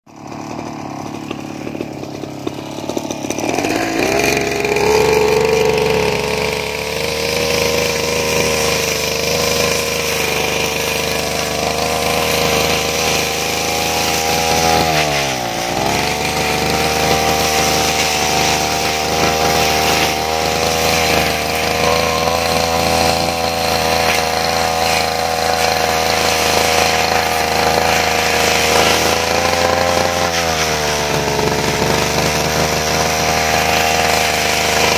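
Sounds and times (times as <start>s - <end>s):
brush cutter engine revving: 0.1s - 34.9s.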